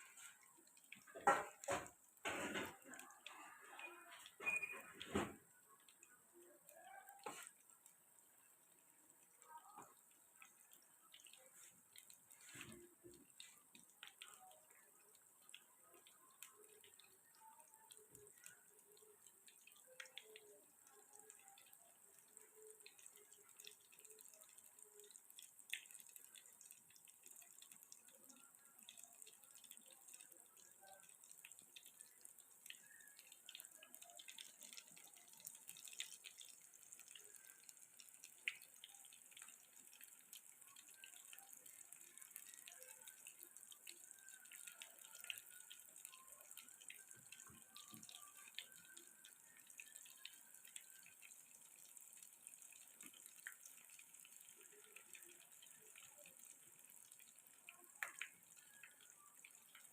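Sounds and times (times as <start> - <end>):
faint ticks and crackles: 0.0 - 59.9.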